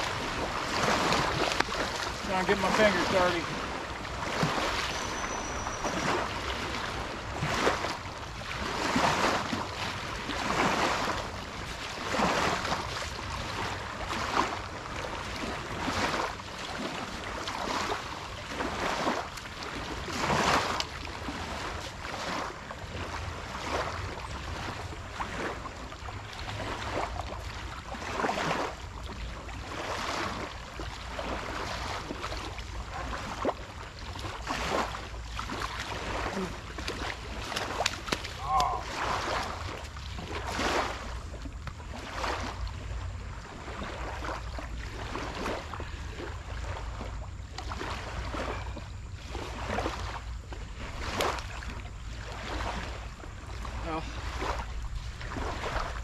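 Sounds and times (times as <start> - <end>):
small waves lapping on a bank: 0.0 - 56.0.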